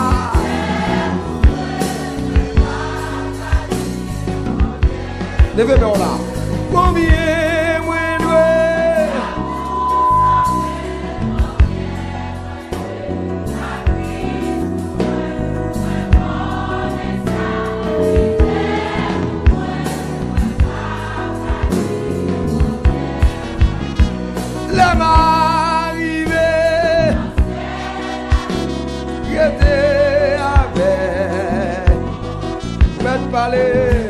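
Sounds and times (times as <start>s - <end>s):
band with bass and drums: 0.0s - 34.0s
voices singing gospel song: 0.0s - 34.0s.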